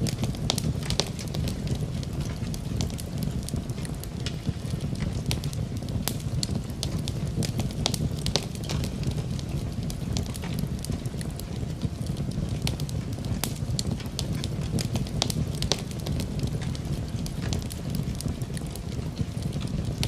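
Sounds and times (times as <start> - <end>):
rain hissing: 0.0 - 20.0
wood fire crackling: 0.0 - 20.0.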